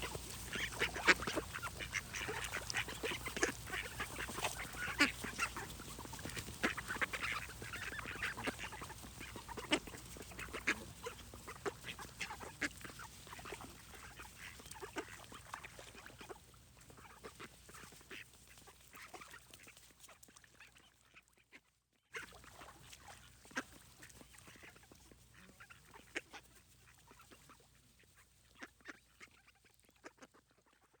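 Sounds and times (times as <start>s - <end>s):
ducks quacking: 0.0s - 21.6s, 22.2s - 31.0s.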